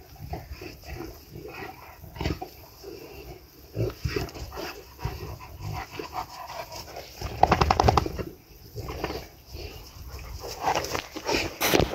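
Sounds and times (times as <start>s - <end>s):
dogs play-wrestling: 0.0s - 8.3s, 8.9s - 11.9s
dogs panting: 0.0s - 11.7s.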